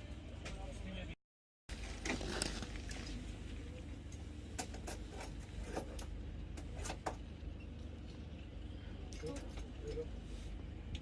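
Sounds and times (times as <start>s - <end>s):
train coach low hum: 0.0s - 11.0s.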